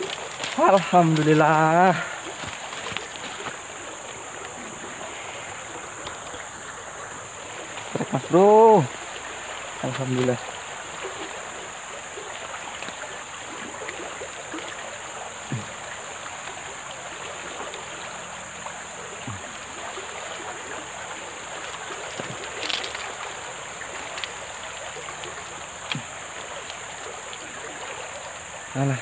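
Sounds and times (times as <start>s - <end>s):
knocks and splashes: 0.0s - 29.0s
river rushing: 0.0s - 29.0s.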